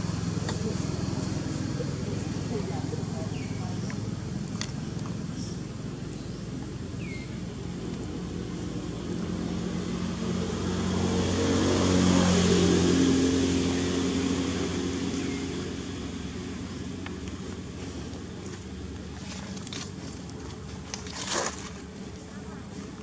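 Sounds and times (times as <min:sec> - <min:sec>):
vehicle engine passing by: 0:00.0 - 0:19.4.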